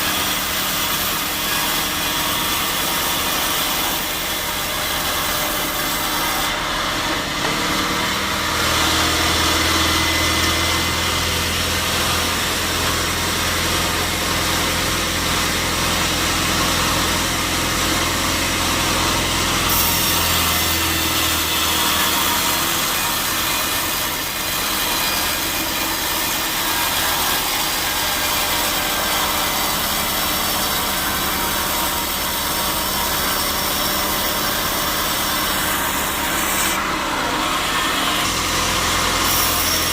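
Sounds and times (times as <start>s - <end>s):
saw blade cutting log: 0.0s - 39.9s.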